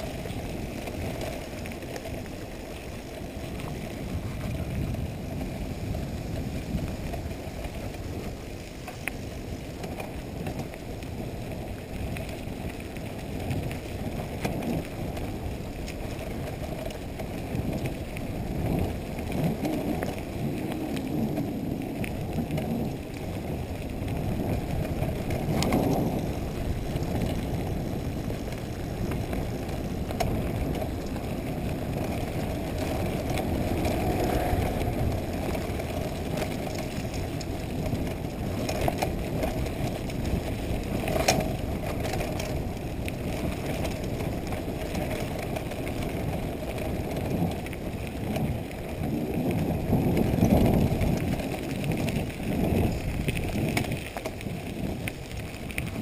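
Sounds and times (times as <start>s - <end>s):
bike tyres rumbling on gravel: 0.0s - 56.0s.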